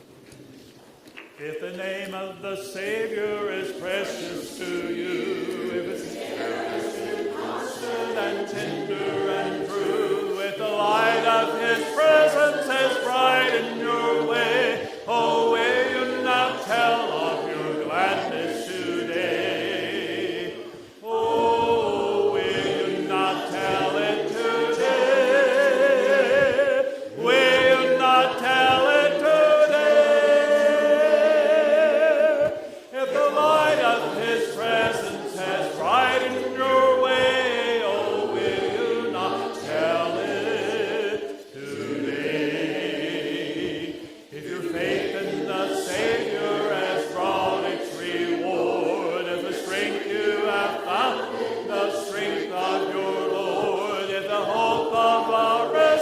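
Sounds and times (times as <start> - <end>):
congregation singing a hymn: 1.4 - 56.0.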